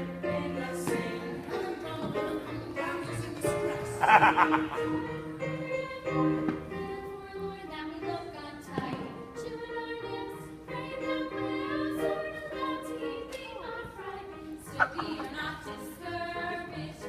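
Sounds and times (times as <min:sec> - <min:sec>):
group of voices singing: 0:00.0 - 0:17.0
musical accompaniment: 0:00.0 - 0:17.0.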